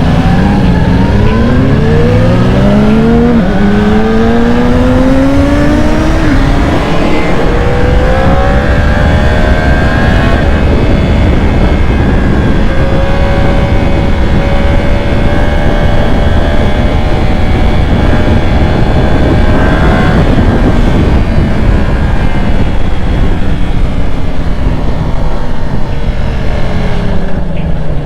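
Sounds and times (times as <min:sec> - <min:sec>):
motorcycle engine at speed: 0:00.0 - 0:28.0
wind rushing: 0:00.0 - 0:28.0.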